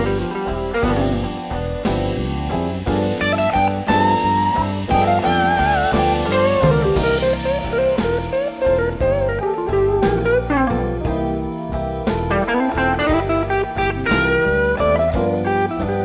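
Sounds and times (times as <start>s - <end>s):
bass: 0.0s - 16.0s
drums: 0.0s - 16.0s
lead guitar bending notes: 0.0s - 16.0s.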